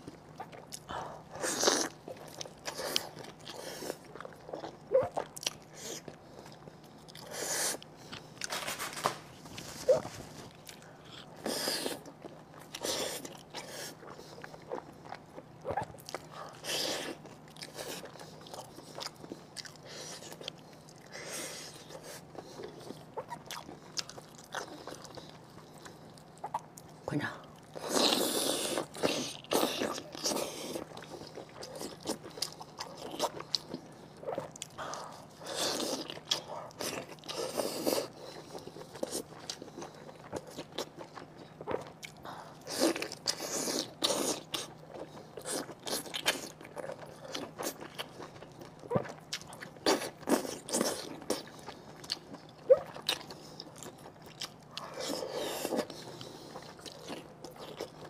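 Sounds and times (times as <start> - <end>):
person eating and chewing: 0.0 - 58.0.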